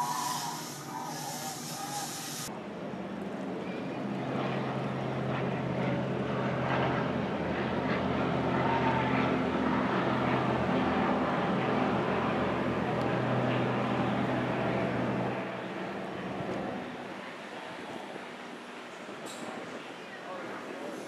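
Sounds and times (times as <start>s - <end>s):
low mechanical drone: 0.0s - 18.1s
noisy rush: 0.0s - 21.0s.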